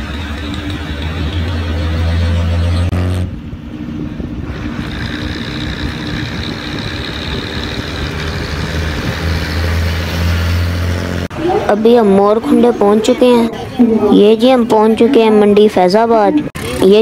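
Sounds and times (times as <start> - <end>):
bus engine drone: 0.0 - 17.0
road noise rumble: 0.0 - 17.0.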